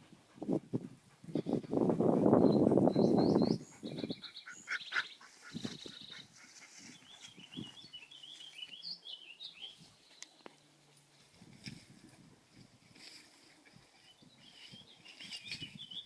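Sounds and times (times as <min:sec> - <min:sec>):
songbirds singing: 0:01.4 - 0:16.0.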